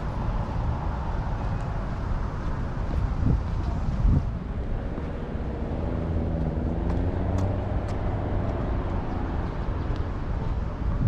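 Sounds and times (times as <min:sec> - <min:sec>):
road traffic passing: 0:00.0 - 0:11.0
wind on microphone: 0:00.0 - 0:11.0.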